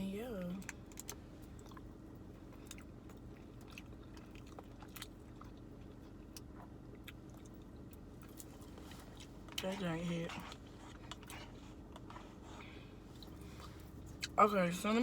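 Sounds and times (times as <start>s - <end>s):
faint low hum: 0.0s - 15.0s
person chewing food: 0.6s - 14.4s.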